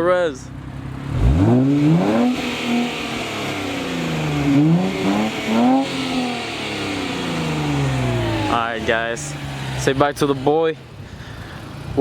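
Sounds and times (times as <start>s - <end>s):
car engine revving: 0.6s - 12.0s.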